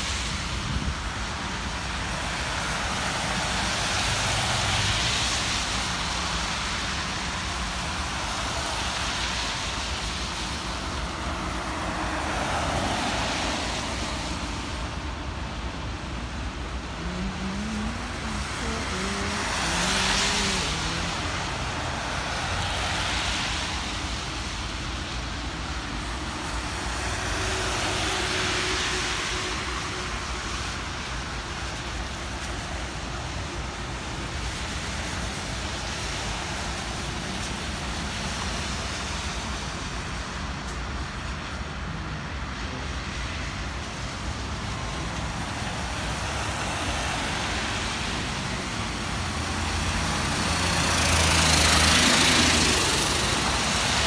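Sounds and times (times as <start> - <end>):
vehicles passing on wet road: 0.0 - 54.0.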